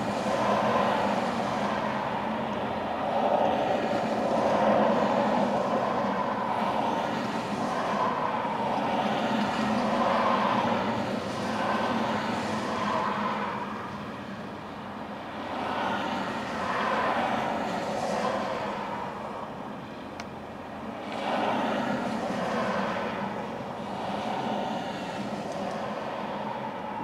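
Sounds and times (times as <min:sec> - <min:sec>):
cars passing on highway: 0:00.0 - 0:27.0.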